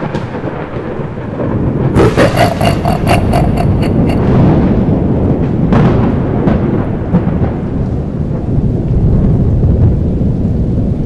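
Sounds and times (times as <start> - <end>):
rain: 0.0 - 11.0
thunder rumbling: 0.0 - 11.0.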